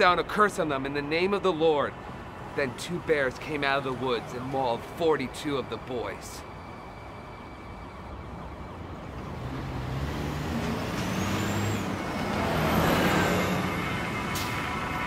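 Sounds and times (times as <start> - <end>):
city bus engine approaching: 0.0 - 15.0.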